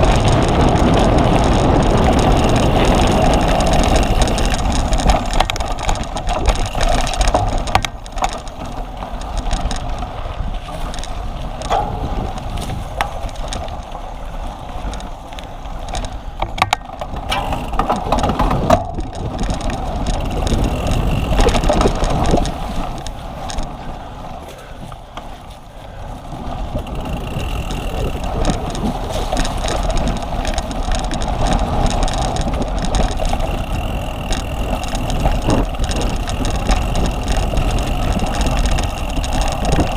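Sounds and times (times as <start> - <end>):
bicycle rattling and clicking: 0.0 - 39.9
wind noise: 0.0 - 39.9.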